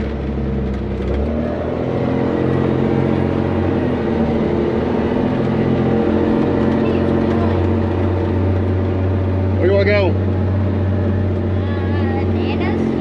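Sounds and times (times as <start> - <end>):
diesel truck engine pulling: 0.0 - 13.0.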